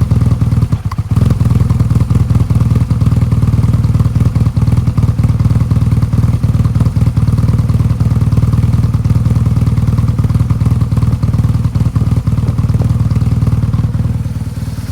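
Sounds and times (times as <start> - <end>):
motorcycle engine idling roughly: 0.0 - 14.9.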